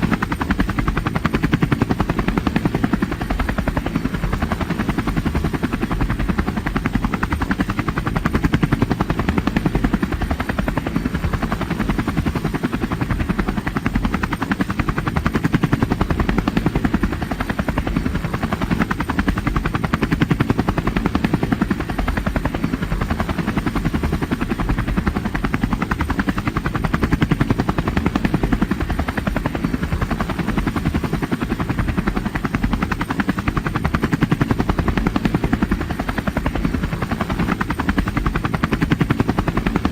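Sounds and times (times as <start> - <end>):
helicopter engine drone: 0.0 - 39.9
helicopter rotor chop: 0.0 - 39.9.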